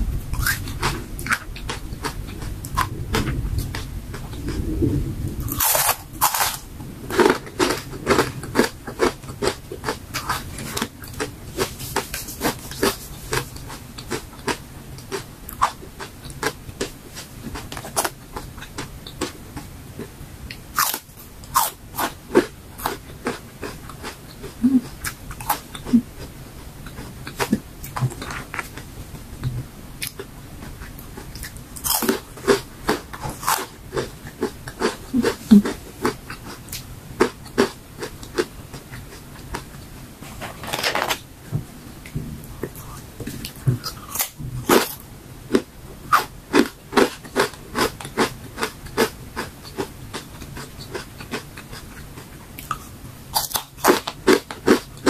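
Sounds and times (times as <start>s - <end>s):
crunching and chewing crispy chips: 0.3s - 4.6s, 5.4s - 20.1s, 20.8s - 28.9s, 30.0s - 39.7s, 42.7s - 55.0s.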